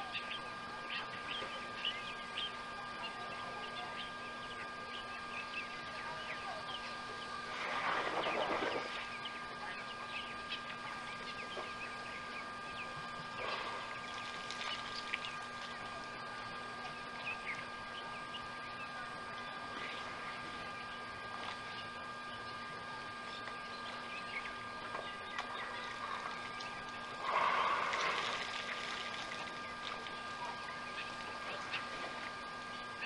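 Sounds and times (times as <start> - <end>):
electronic hum with high tones: 0.0 - 33.0.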